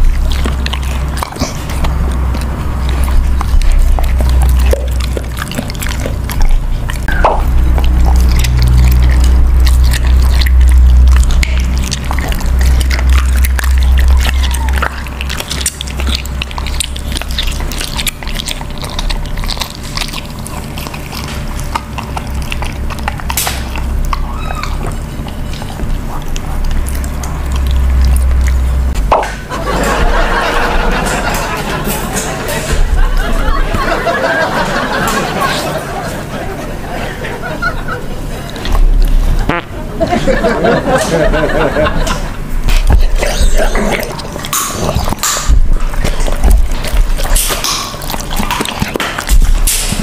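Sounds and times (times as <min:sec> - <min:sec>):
dog chewing and licking: 0:00.0 - 0:39.6, 0:40.4 - 0:50.0.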